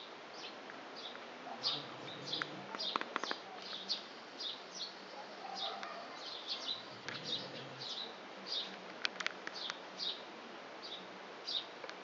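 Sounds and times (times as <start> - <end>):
small birds twittering: 0.3 - 8.8, 9.5 - 11.8.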